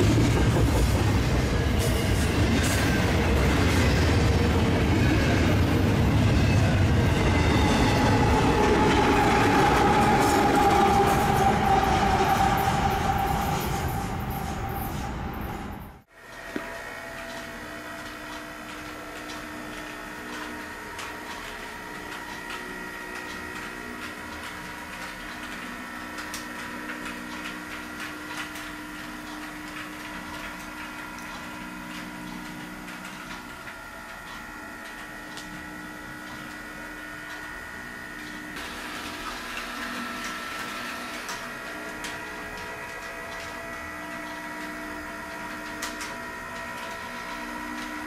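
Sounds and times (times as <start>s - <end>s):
steady mechanical hum: 0.0s - 48.0s.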